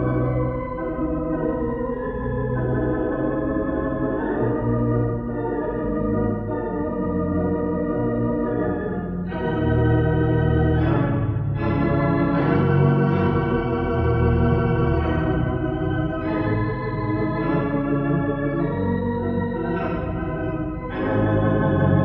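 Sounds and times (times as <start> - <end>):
pipe organ playing held chords: 0.0 - 22.0.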